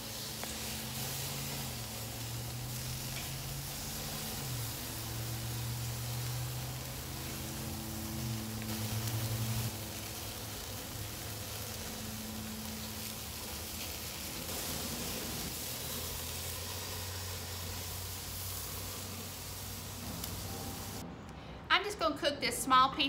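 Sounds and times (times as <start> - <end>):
steak sizzling on grill: 0.0 - 21.0.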